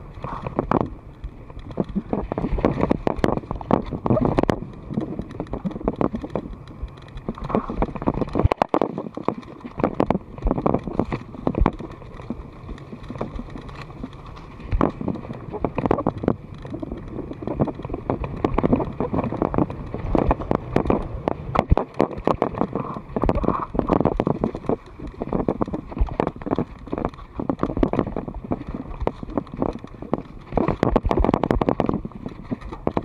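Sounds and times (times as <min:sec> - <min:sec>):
bike knocking and rattling: 0:00.0 - 0:33.0
bike tyres rumbling on dirt: 0:00.0 - 0:33.0
wind buffeting microphone: 0:00.0 - 0:33.0.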